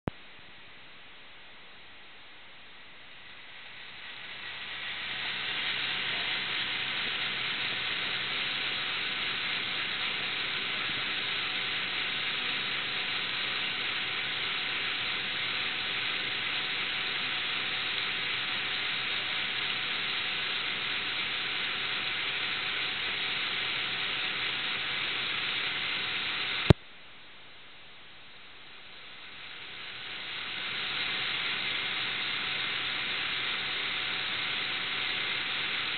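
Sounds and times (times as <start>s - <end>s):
recording hiss: 0.0s - 35.9s.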